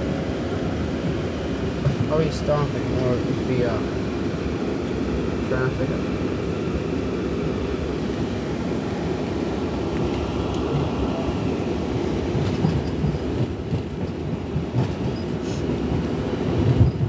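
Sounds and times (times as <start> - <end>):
light-rail car rumbling on track: 0.0 - 17.0.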